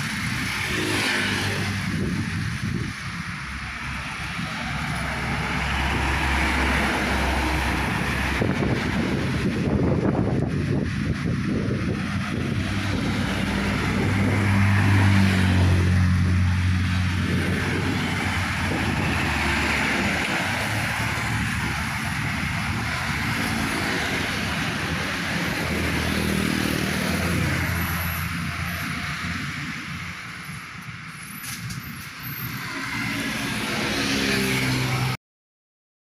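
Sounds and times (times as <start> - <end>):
heavy trucks driving past: 0.0 - 35.2
tyre and traffic noise: 0.0 - 35.2.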